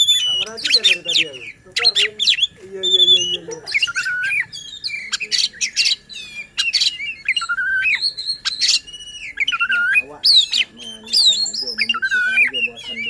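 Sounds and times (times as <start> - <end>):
bird singing varied song: 0.0 - 13.0.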